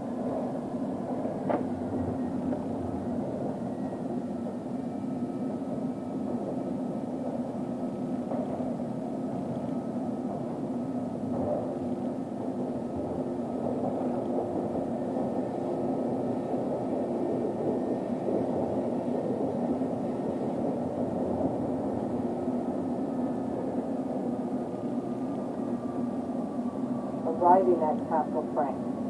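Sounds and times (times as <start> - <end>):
faint steady hum: 0.0 - 29.0
subway train rumbling on rails: 0.0 - 29.0.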